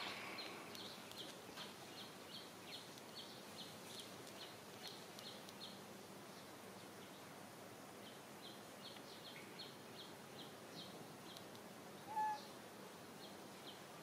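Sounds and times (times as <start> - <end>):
low hiss: 0.0 - 14.0.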